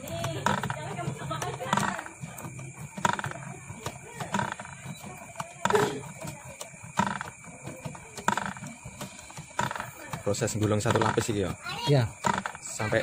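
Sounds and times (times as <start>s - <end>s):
rasping wire pulse: 0.0s - 11.5s, 12.1s - 13.0s
coil winder motor hum: 0.0s - 13.0s.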